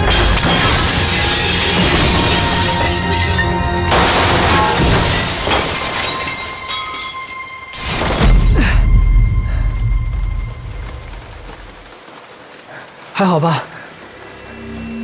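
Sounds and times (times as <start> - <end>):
dramatic score music: 0.0 - 5.6, 6.3 - 12.2, 13.8 - 15.0.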